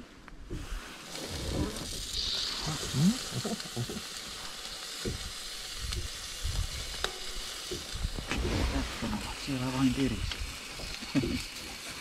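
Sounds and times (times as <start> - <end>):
sausages sizzling on grill: 0.5 - 12.0.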